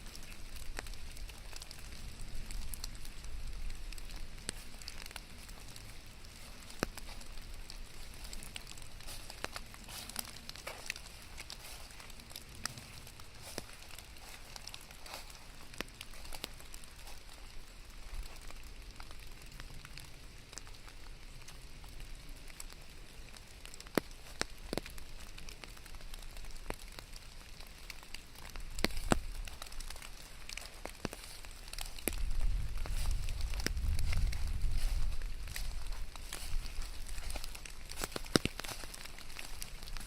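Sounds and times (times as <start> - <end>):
sharp raindrops ticking: 0.0 - 40.0
steady rain: 0.0 - 40.0.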